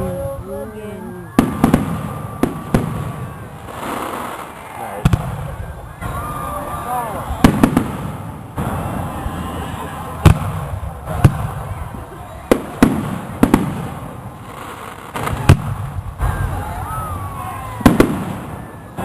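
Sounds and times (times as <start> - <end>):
fireworks bangs with rumble: 1.3 - 6.5, 7.2 - 19.0.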